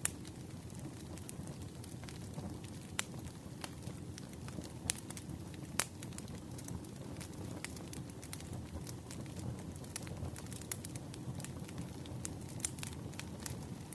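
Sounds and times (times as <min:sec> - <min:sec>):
burning wood crackling and popping: 0:00.0 - 0:13.9
low rumble of flames: 0:00.0 - 0:13.9.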